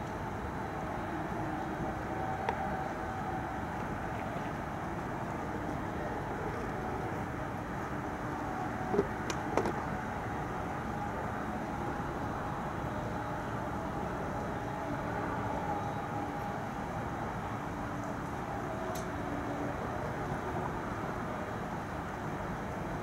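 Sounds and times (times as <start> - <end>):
distant traffic hum: 0.0 - 23.0.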